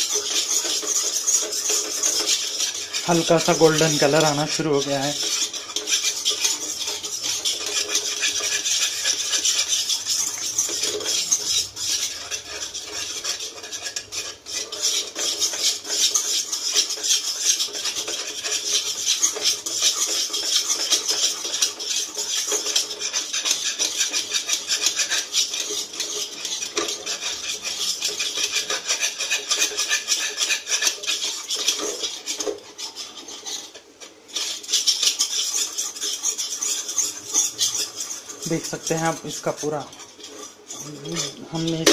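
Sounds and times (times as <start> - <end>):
utensil scraping a pan: 0.0 - 41.9.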